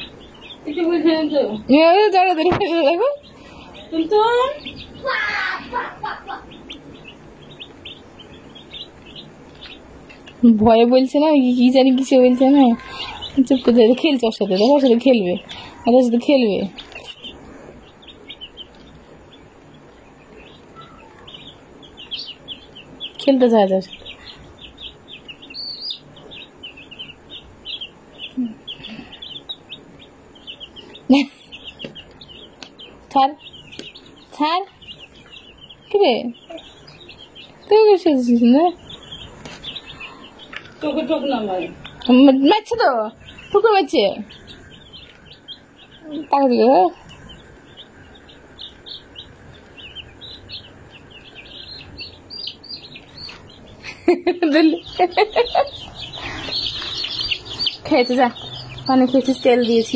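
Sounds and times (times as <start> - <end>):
baby chick peeping: 0.0 - 59.9.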